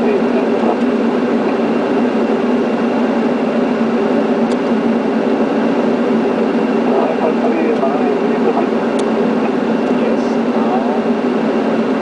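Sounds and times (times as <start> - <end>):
airliner cockpit noise: 0.0 - 12.0.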